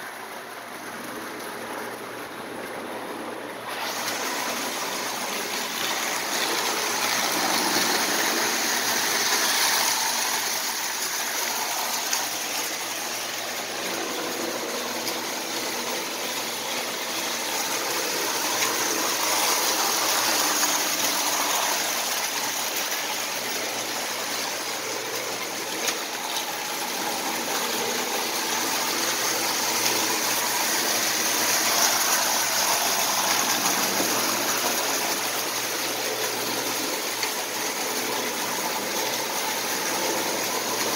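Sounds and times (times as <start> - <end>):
toy train running on metal track: 0.0 - 40.9.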